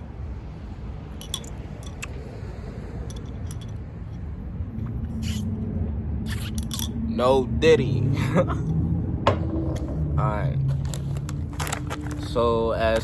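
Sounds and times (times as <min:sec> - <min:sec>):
low hum: 0:00.0 - 0:12.5
steady low rumble: 0:00.0 - 0:13.0.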